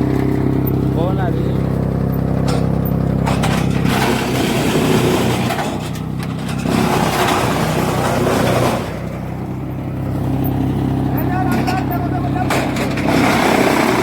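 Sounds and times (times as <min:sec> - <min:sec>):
wood chipper humming: 0:00.0 - 0:14.0.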